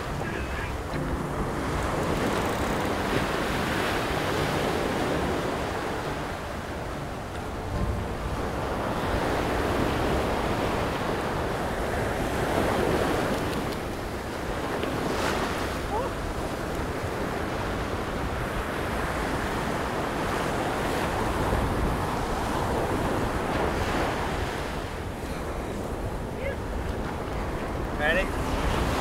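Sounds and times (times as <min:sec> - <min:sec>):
surf breaking on beach: 0:00.0 - 0:29.0
wind rumbling on microphone: 0:00.0 - 0:29.0.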